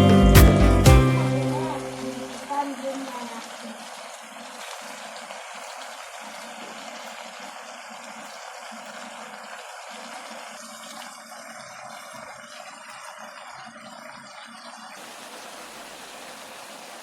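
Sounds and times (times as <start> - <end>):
water running in a stream: 0.0 - 17.0.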